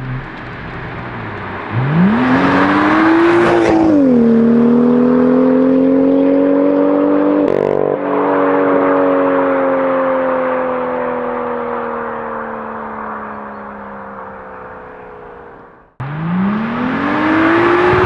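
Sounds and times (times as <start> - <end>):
car engine accelerating loudly: 0.0 - 18.0.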